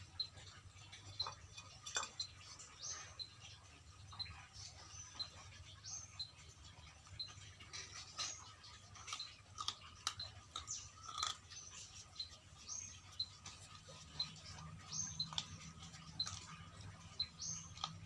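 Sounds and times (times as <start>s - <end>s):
dogs chewing bones: 0.0s - 18.0s.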